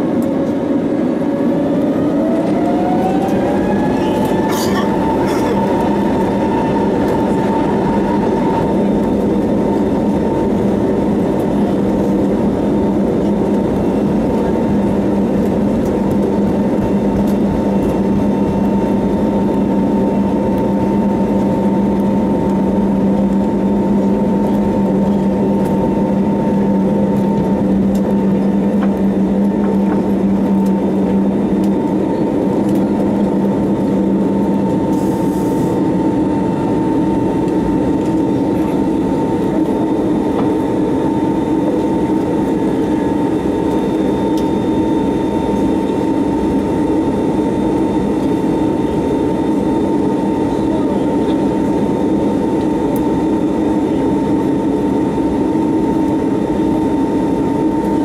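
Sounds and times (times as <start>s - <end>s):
jet engines at takeoff thrust: 0.0s - 58.0s.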